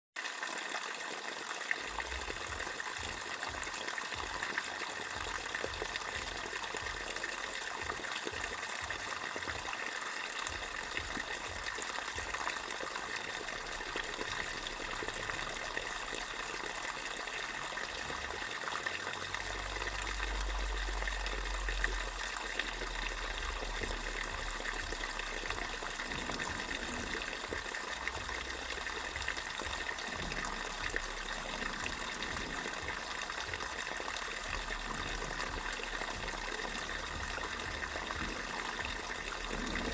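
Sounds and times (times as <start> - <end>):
water gushing from a pipe: 0.2 - 39.9.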